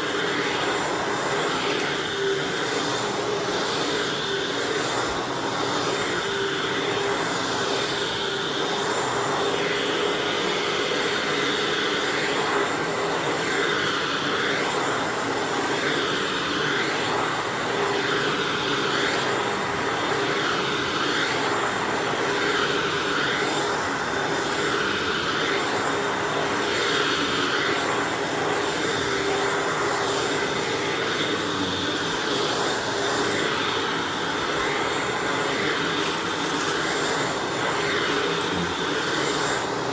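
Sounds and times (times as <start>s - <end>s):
upright vacuum running: 0.0s - 39.9s.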